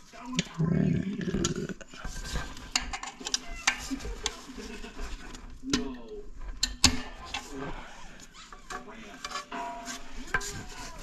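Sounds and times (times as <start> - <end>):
hand tools scraping metal parts: 1.4 - 11.0.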